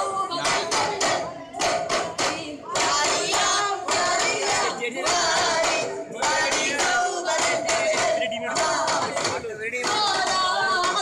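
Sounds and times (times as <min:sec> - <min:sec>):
boys singing in chorus: 0:00.0 - 0:11.0
frame drums beating: 0:00.0 - 0:11.0.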